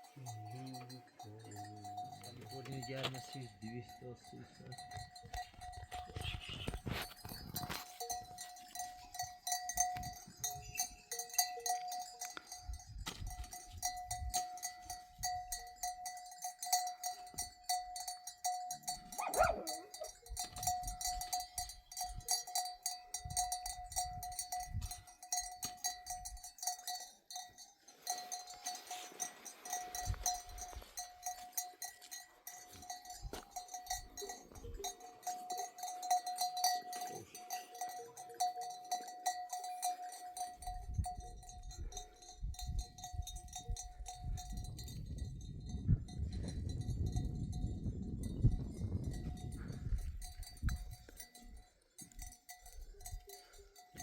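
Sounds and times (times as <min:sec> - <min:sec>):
animal bells clinking and ringing: 0:00.0 - 0:54.0.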